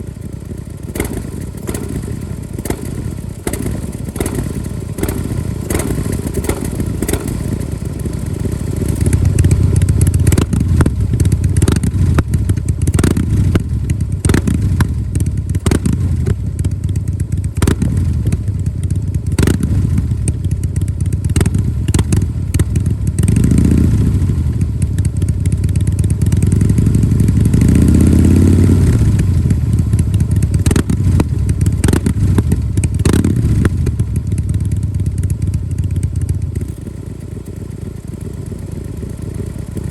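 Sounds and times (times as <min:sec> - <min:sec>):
motorcycle idling: 0:00.0 - 0:39.9
motorcycle throttle revving: 0:00.0 - 0:39.9.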